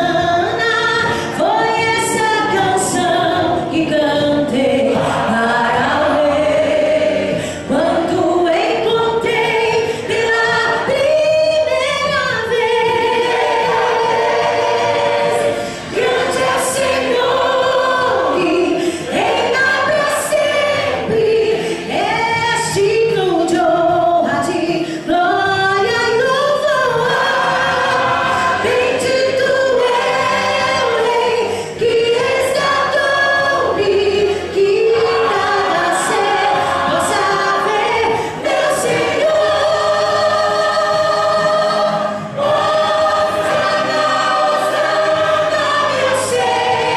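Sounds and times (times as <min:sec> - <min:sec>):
choir singing gospel song: 0:00.0 - 0:46.9.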